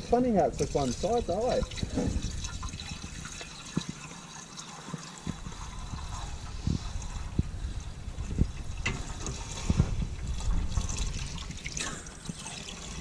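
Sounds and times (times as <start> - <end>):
water trickling into radiator: 0.0 - 13.0.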